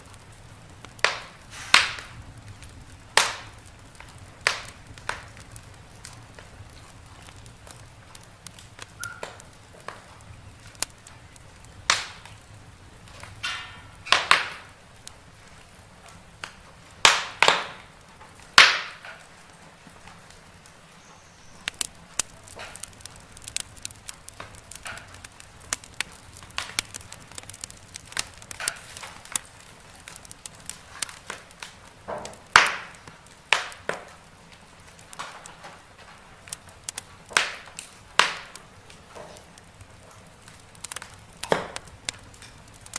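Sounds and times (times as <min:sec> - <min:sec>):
fireplace wood crackling: 0:00.0 - 0:42.9.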